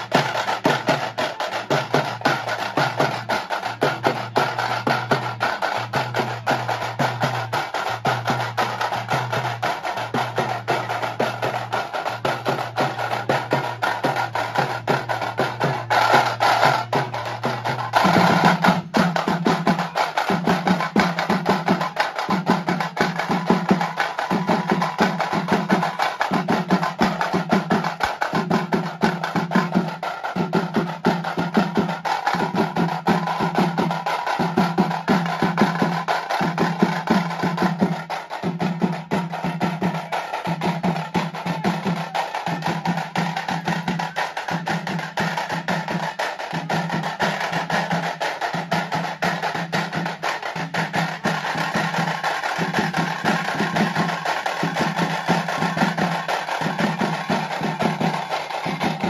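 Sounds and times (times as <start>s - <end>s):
drummers beating hand drums: 0.0s - 59.0s.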